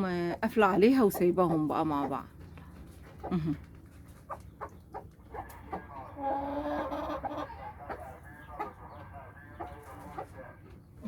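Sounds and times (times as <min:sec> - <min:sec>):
hen clucking: 0:00.2 - 0:11.0.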